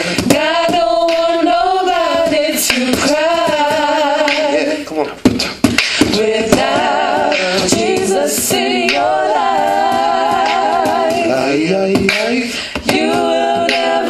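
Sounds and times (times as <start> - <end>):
person singing with vibrato: 0.0 - 14.0
sharp percussive beats: 0.0 - 14.0.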